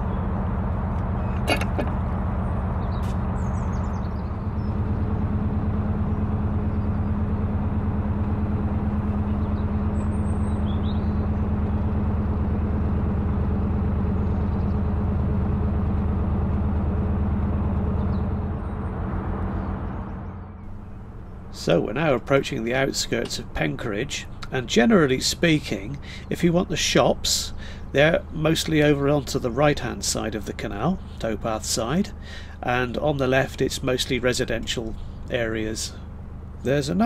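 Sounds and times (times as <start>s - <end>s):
diesel boat engine throbbing: 0.0s - 37.0s.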